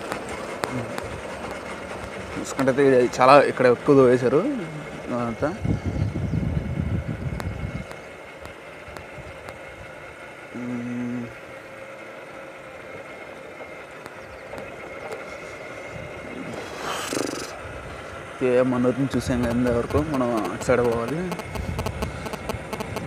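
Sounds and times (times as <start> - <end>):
wind and road noise: 0.0 - 10.6, 11.6 - 23.0
motorcycle running: 0.0 - 23.0.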